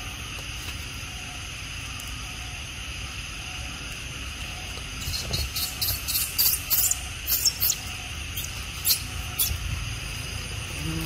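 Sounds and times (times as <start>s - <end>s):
insects droning: 0.0s - 11.0s
high-pitched insect chirps: 0.1s - 11.0s.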